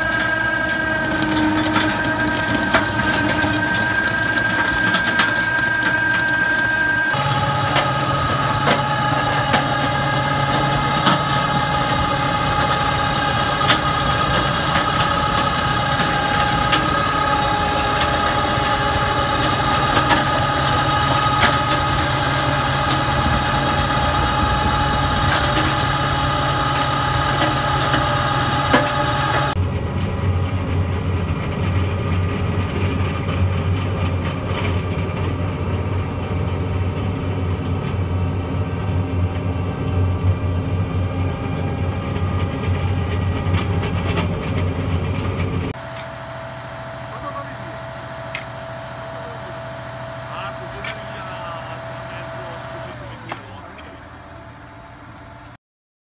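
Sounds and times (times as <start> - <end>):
muffled tractor engine drone: 0.0 - 55.6
stone crusher mechanical drone: 0.0 - 55.6.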